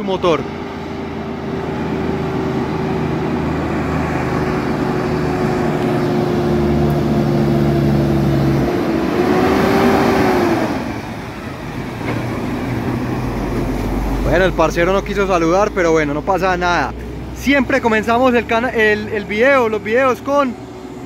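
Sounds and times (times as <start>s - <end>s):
truck diesel engine passing by: 0.0s - 21.0s.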